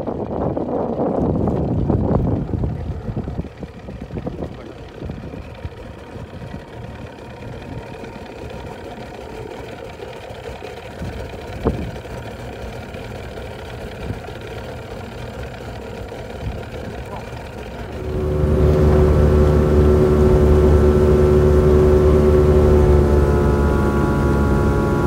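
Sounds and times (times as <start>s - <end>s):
low wind: 0.0s - 9.6s, 10.8s - 25.0s
outboard motor humming: 0.0s - 25.0s
water noise: 0.0s - 25.0s.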